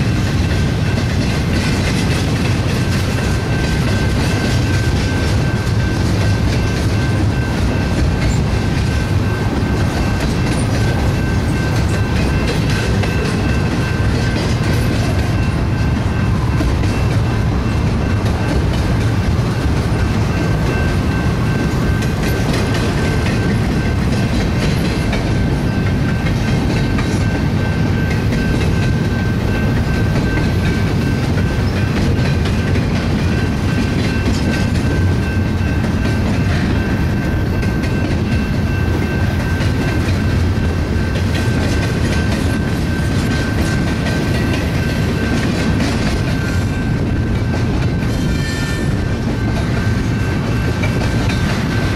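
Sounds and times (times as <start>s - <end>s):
train wheels clattering over rails: 0.0s - 51.9s.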